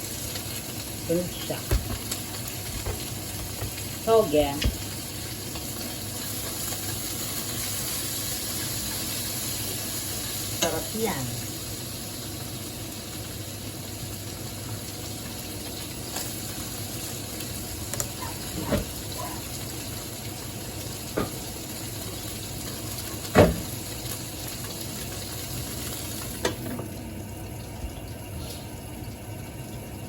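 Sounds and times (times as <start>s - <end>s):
frying pan sizzling: 0.0s - 30.0s.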